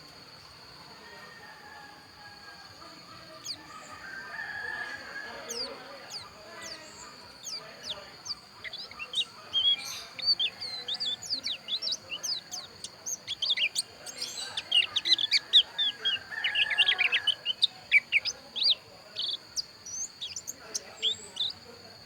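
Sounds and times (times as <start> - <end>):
bird chirping and twittering: 2.6 - 22.0.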